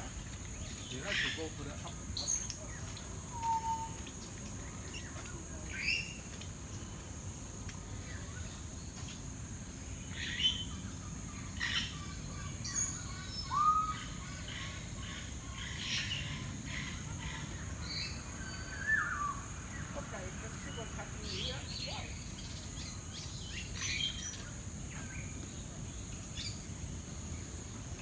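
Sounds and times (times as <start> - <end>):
birds chirping: 0.0 - 9.2, 10.0 - 28.0.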